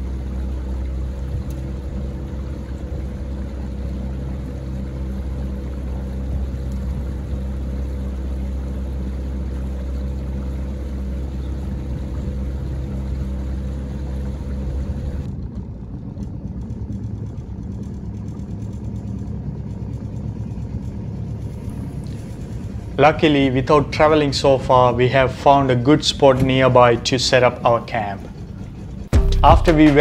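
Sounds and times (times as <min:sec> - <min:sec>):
small boat motor running: 0:00.0 - 0:30.0.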